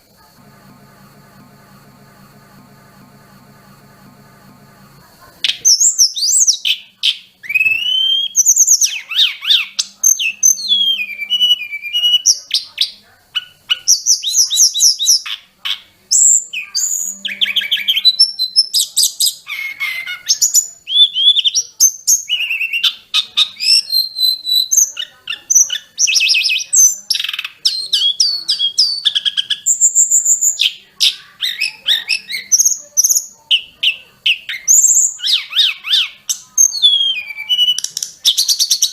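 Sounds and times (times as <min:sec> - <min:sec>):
songbird singing: 0:05.0 - 0:38.9.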